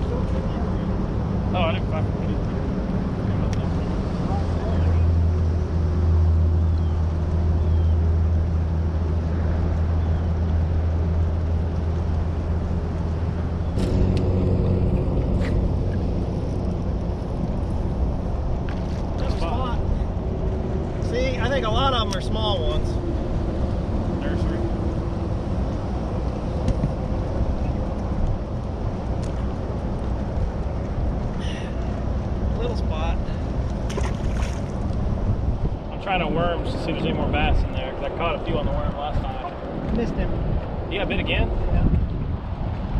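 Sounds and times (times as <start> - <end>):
motorboat engine humming: 0.0 - 35.8
water around a boat: 0.0 - 42.9
wind: 0.0 - 42.9.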